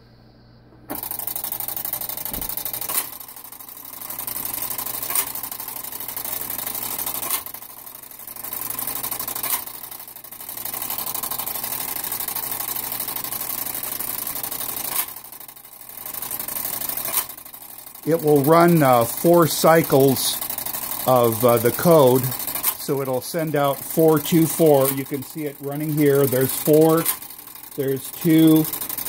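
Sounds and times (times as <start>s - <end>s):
clockwork whirring and ticking: 0.9s - 29.0s.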